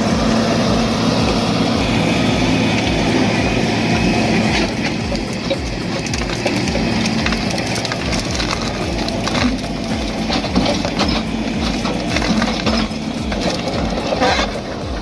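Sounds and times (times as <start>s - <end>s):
heavy machine rhythmic clatter: 0.0s - 15.0s.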